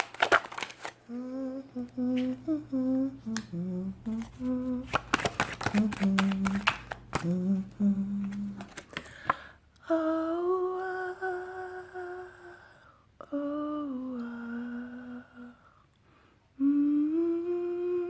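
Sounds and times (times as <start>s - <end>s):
woman humming: 1.1s - 8.8s, 9.8s - 15.7s, 16.6s - 18.0s.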